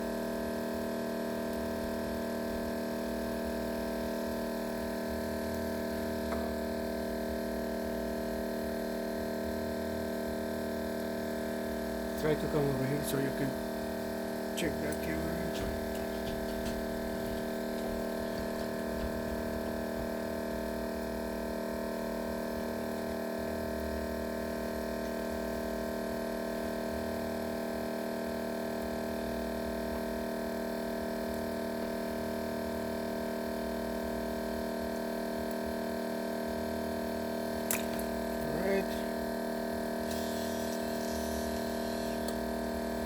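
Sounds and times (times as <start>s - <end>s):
machine hum with fixed tones: 0.0s - 43.0s.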